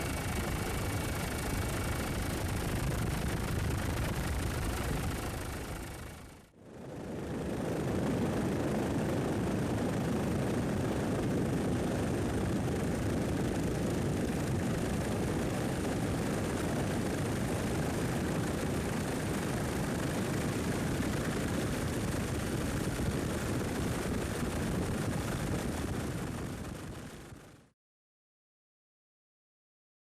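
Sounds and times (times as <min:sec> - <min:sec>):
helicopter engine and rotor: 0:00.0 - 0:27.4.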